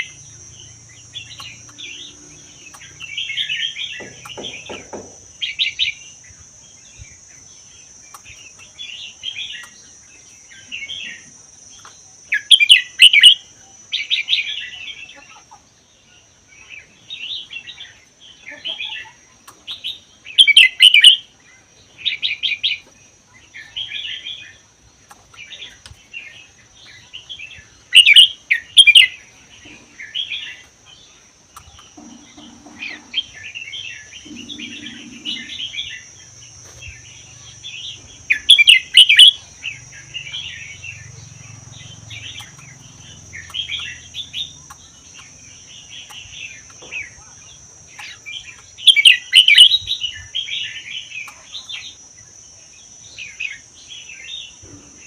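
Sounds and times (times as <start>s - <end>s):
bird singing warbled phrases: 0.0s - 55.0s.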